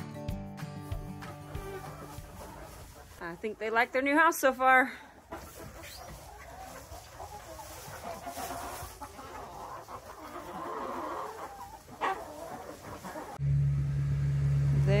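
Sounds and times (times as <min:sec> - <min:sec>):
hens clucking: 0:01.0 - 0:13.4.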